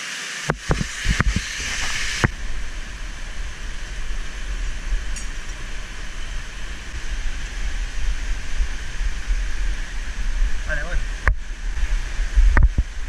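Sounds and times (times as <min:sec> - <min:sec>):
wind rumbling on microphone: 0:00.5 - 0:13.0.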